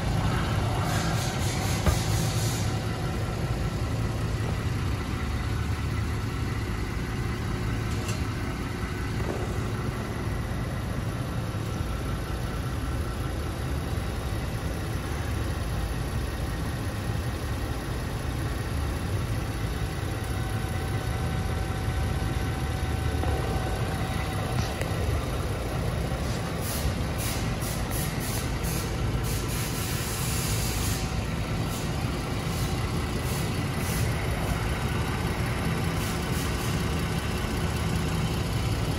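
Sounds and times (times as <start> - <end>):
van engine idling: 0.0 - 38.9.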